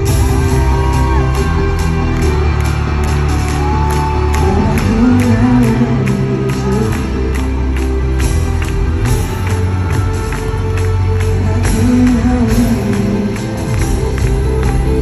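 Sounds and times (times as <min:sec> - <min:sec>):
live pop music over sound system: 0:00.0 - 0:15.0.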